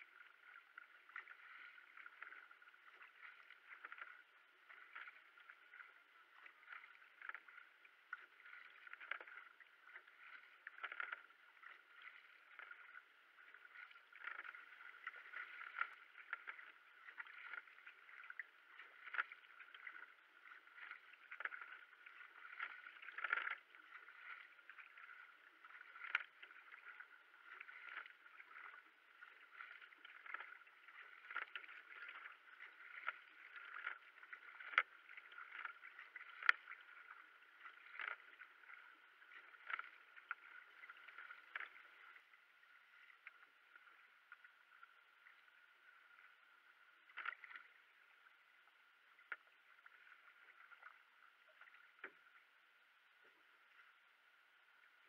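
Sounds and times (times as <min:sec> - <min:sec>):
water washing along hull: 0:00.0 - 0:52.6
paddle strokes splashing: 0:00.0 - 0:55.0.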